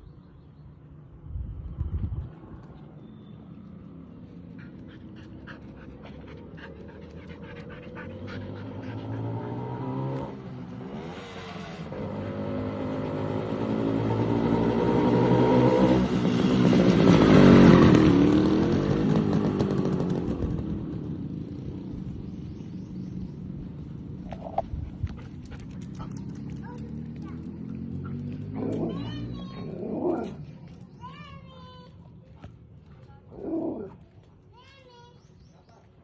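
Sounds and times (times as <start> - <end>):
motorcycle passing by: 1.4 - 31.2.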